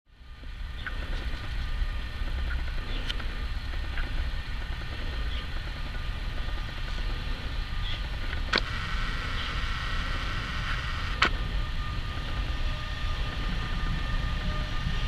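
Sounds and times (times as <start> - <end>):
electric hum: 0.1 - 15.0
locomotive rumble: 0.1 - 15.0.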